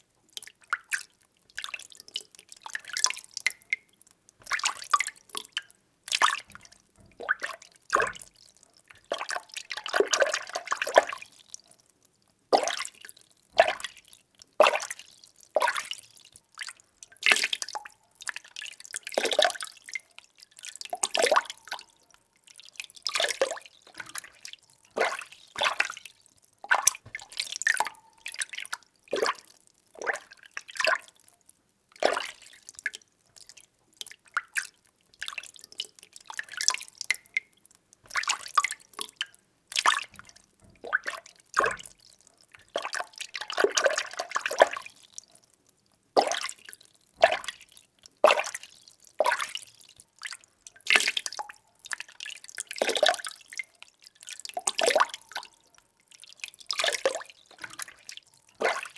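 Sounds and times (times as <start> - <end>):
water splashing in a container: 0.3 - 11.7, 12.5 - 31.3, 31.9 - 45.4, 46.1 - 58.9.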